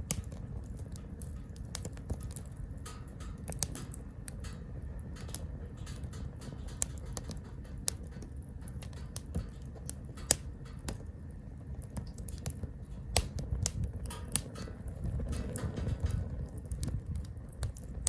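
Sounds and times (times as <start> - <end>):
firewood crackling and popping: 0.0 - 18.0
low steady rumble: 0.0 - 18.0.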